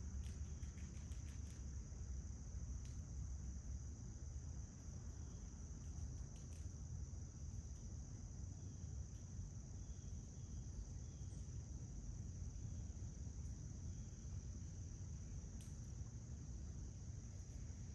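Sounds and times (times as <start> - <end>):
insect chorus drone: 0.0 - 17.9.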